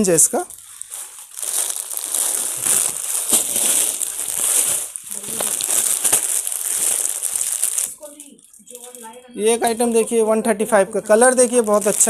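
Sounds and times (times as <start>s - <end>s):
plastic packaging crinkling: 0.0s - 10.2s, 10.9s - 12.0s.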